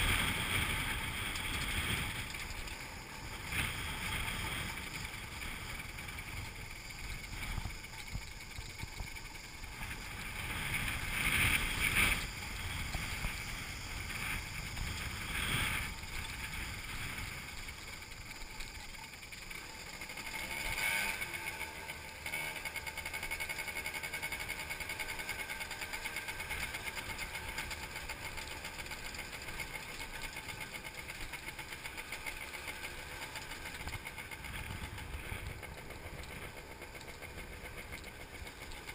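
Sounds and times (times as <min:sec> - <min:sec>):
motorbike engine on dirt track: 0:00.0 - 0:38.9.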